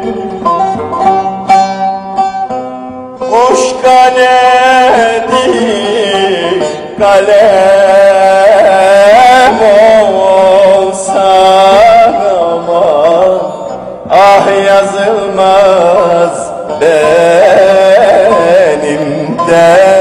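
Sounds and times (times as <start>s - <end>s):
folk song with wavering melody: 0.0s - 20.0s.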